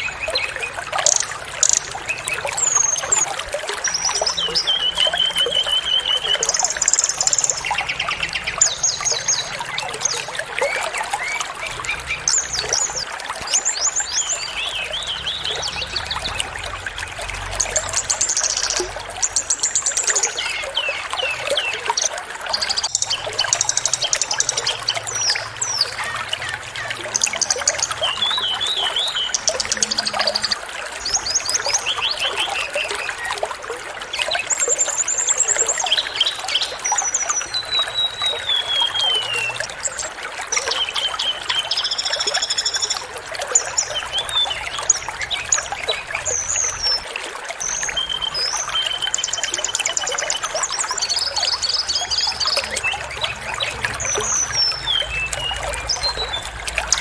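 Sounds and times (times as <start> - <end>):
flowing water: 0.0 - 57.0
songbirds chirping and trilling: 0.0 - 57.0.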